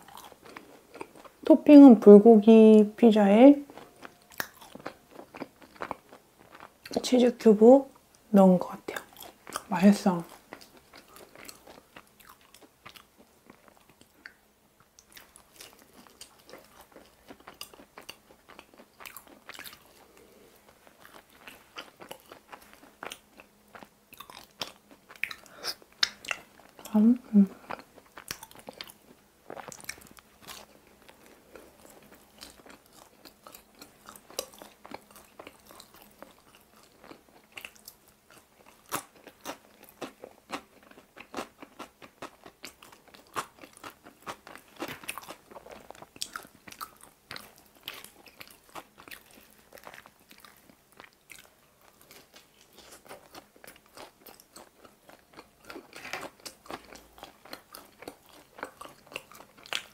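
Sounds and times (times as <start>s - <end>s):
person chewing crunchy pizza: 0.0s - 1.5s, 3.6s - 7.0s, 8.9s - 59.9s.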